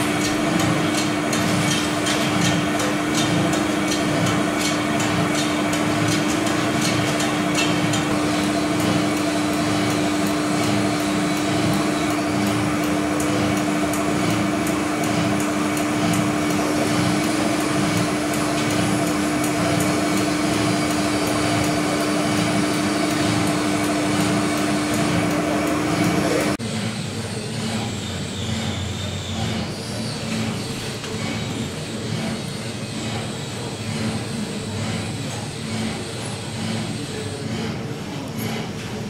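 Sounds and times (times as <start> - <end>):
lathe humming: 0.0 - 38.4.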